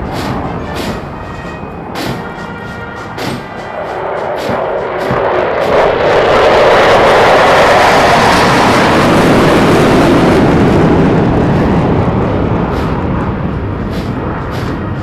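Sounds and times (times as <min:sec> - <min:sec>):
aircraft engine rushing overhead: 0:00.0 - 0:15.0.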